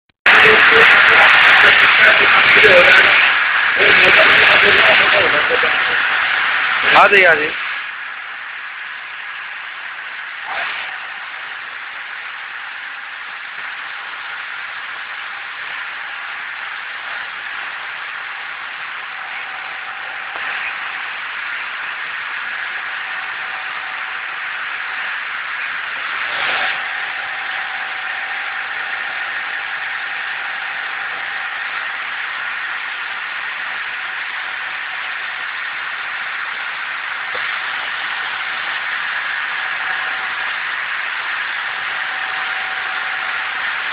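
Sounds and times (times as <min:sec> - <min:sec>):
braiding machine running: 0:00.3 - 0:43.9
faint steady whine: 0:00.3 - 0:43.9.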